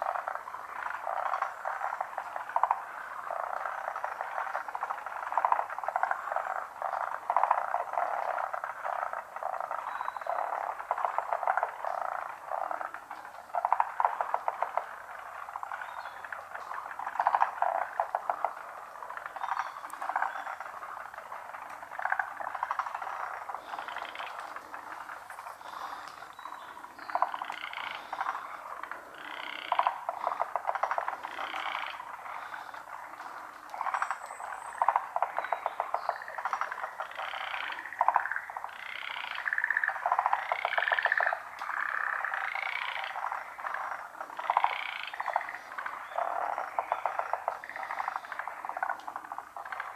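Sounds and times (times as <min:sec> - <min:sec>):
chorus of frogs croaking: 0:00.0 - 0:49.9.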